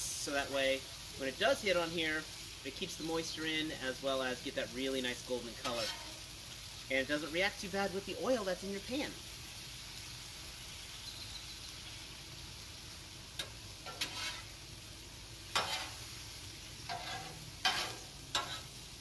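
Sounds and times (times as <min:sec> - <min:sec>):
meat sizzling on a griddle: 0:00.0 - 0:19.0.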